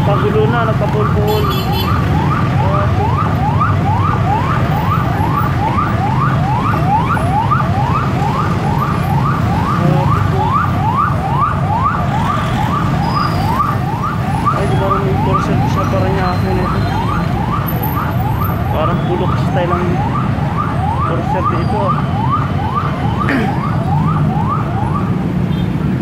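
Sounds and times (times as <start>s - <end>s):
ambulance siren yelping: 0.0s - 25.4s
traffic engines rumbling: 0.0s - 26.0s.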